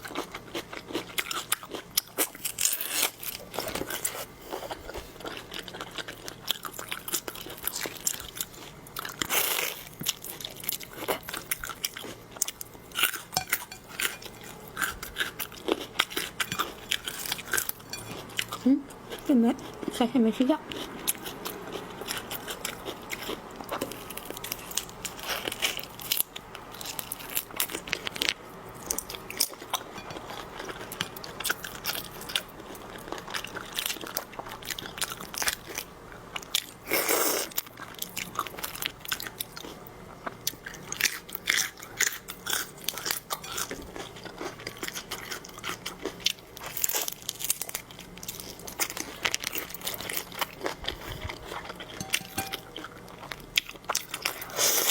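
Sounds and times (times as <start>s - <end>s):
crunching and chewing seafood: 0.0s - 54.9s.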